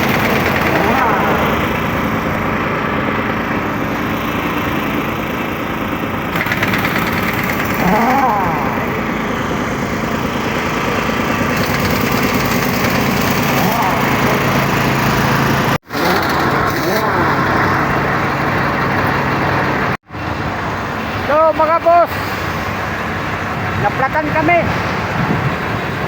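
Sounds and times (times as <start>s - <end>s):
engine speeding up: 0.0s - 21.1s
roadside traffic engine noise: 0.0s - 26.0s.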